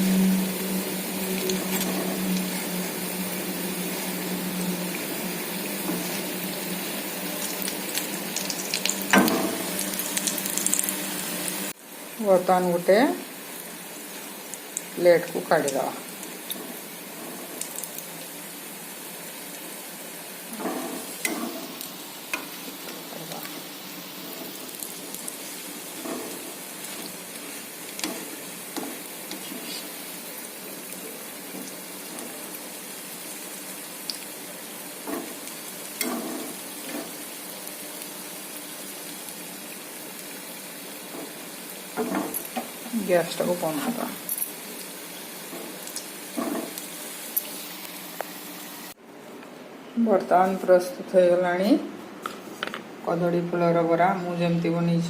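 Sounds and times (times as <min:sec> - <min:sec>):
fritters sizzling in oil: 0:00.0 - 0:49.0.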